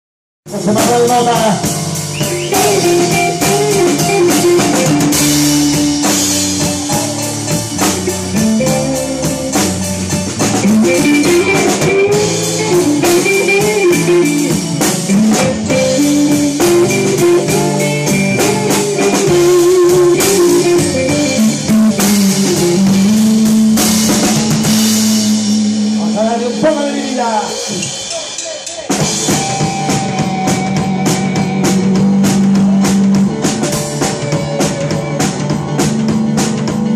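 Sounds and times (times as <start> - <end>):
electric guitar bending notes: 0.5 - 28.1, 28.9 - 36.9
steady drum beat: 0.5 - 36.9.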